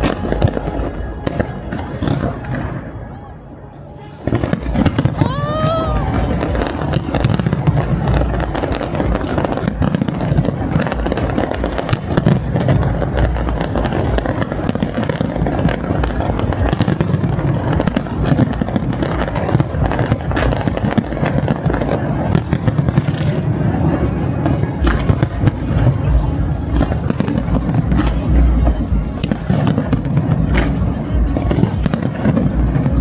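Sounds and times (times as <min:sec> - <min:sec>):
deep booming fireworks: 0:00.0 - 0:03.0, 0:04.2 - 0:33.0
fireworks bangs and crackles: 0:00.0 - 0:03.3, 0:04.1 - 0:33.0.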